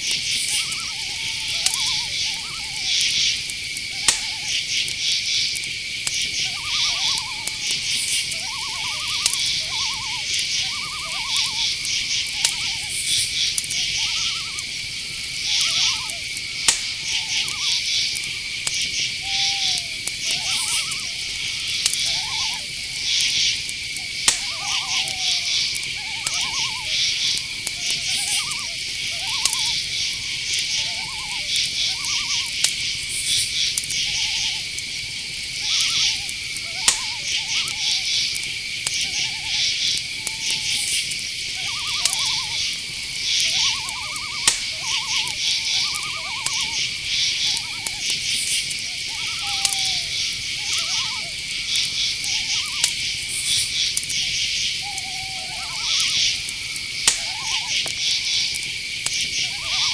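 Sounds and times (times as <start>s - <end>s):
crickets trilling: 0.0s - 59.9s
night birds calling: 0.0s - 59.9s
sharp clicks: 3.0s - 34.1s, 34.7s - 50.8s, 56.0s - 59.5s.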